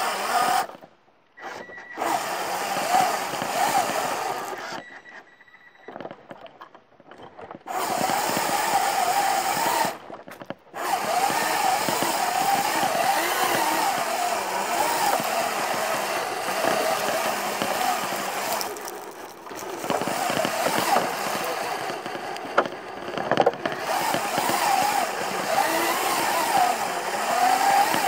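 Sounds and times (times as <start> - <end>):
toy electric motors whining: 0.0 - 6.4, 7.6 - 28.0.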